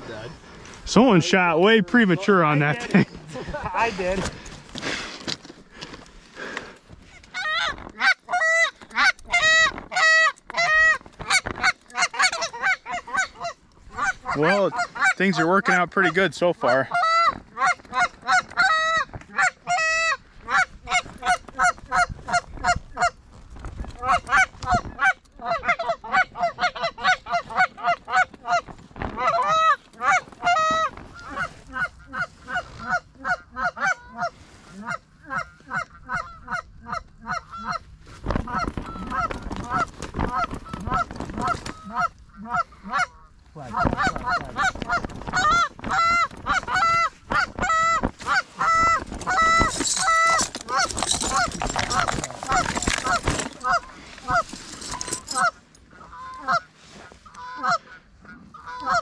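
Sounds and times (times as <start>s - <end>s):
goose honking: 7.1s - 23.2s, 24.0s - 59.0s.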